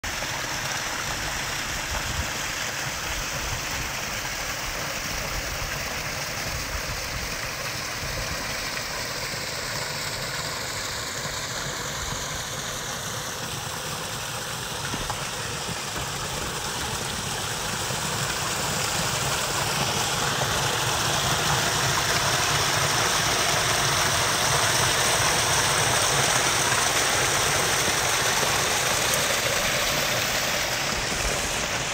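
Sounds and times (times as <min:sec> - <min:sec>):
water splashing over rocks: 0:00.0 - 0:31.9.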